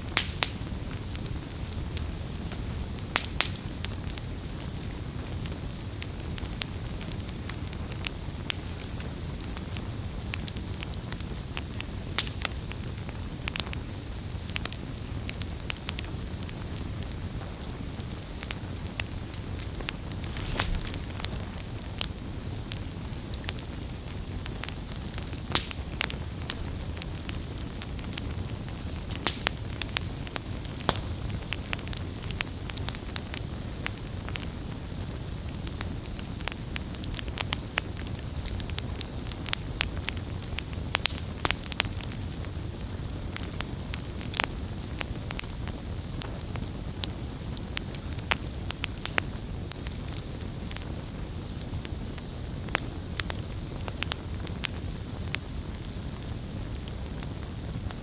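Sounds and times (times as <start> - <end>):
campfire rumble and hiss: 0.0 - 58.0
fire pops and crackles: 0.0 - 58.0.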